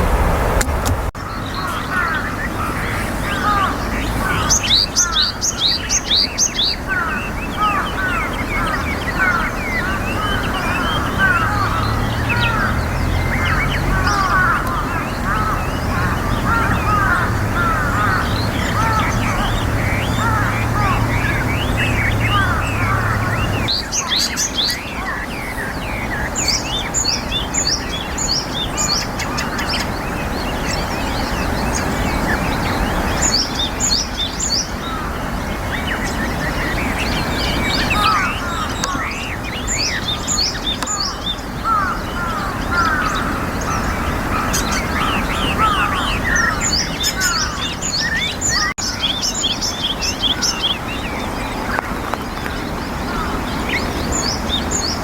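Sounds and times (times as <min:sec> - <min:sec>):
steady background hiss: 0:00.0 - 0:55.0
other birds chirping: 0:01.2 - 0:55.0.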